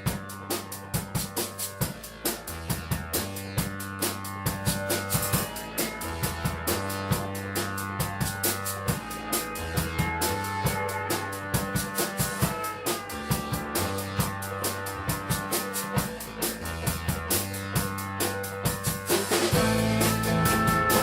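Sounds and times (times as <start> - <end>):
drum kit beat: 0.0 - 21.0
held bass notes: 0.0 - 21.0.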